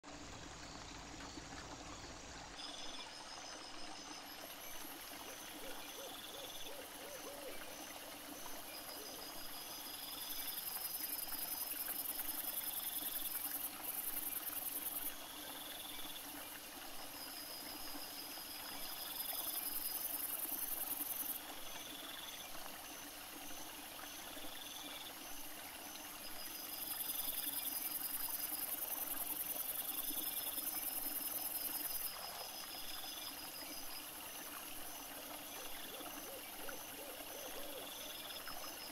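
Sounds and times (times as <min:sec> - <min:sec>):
crickets chirping: 0:00.3 - 0:38.9.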